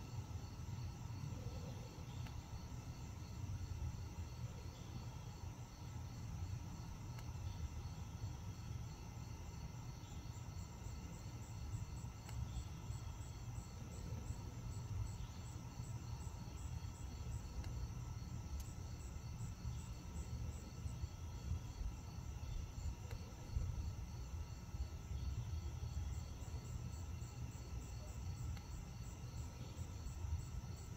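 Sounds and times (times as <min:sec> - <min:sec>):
crickets and insects chirping: 0:00.0 - 0:30.9.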